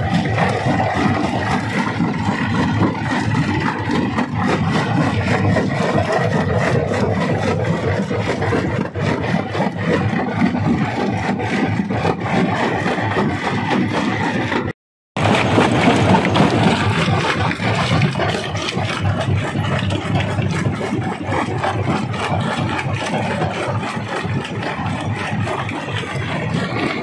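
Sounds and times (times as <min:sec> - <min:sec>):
rock crusher grinding stone: 0:00.0 - 0:27.0.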